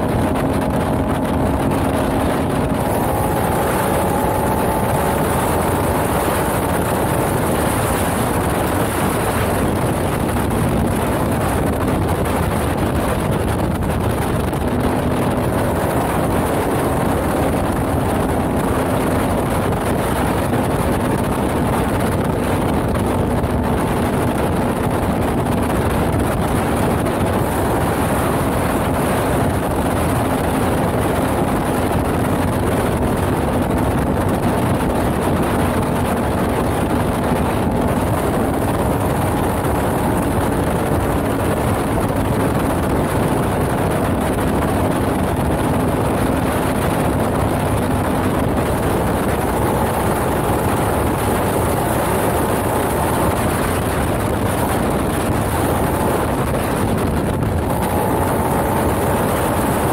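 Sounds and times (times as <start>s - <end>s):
atv engine running at speed: 0.0s - 59.9s
wind rushing over microphone: 0.0s - 59.9s.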